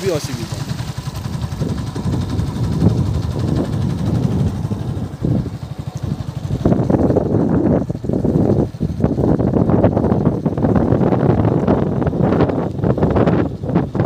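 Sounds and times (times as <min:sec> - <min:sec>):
vehicle engine running: 0:00.0 - 0:14.0
wind buffeting microphone: 0:00.0 - 0:14.0.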